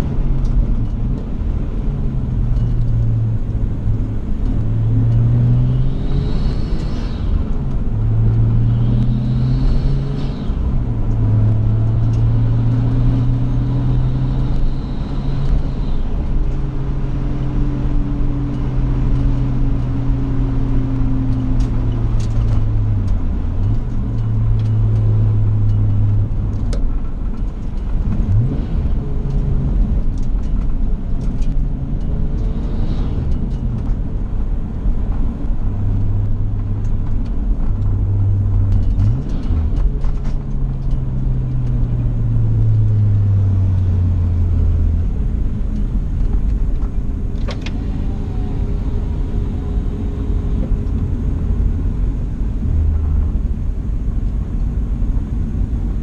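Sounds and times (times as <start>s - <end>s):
car engine from inside cabin: 0.0s - 56.0s.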